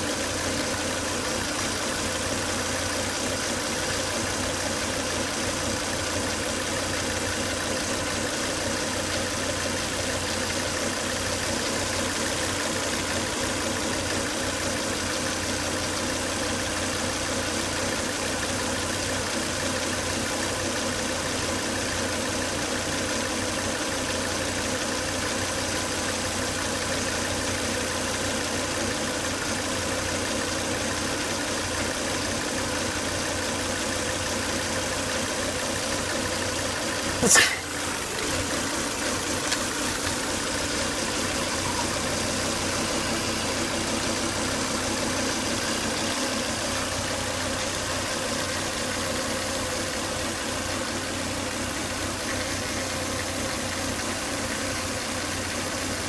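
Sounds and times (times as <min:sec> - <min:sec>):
car engine idling with a whine: 0:00.0 - 0:56.0.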